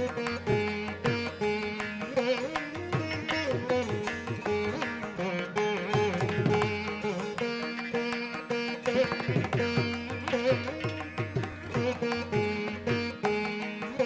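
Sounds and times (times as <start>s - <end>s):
plucked and struck beats: 0.0s - 14.0s
plucked string melody: 0.0s - 14.0s.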